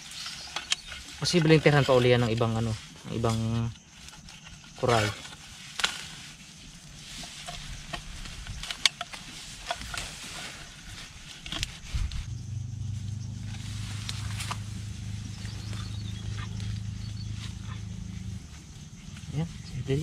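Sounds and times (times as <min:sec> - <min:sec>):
rustling in dry grass: 0:00.0 - 0:20.0
steady low hum: 0:02.4 - 0:20.0.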